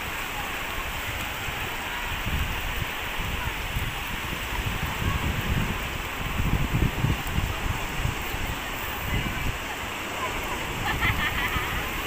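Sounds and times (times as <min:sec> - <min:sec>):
small waves washing over sand: 0:00.0 - 0:12.0.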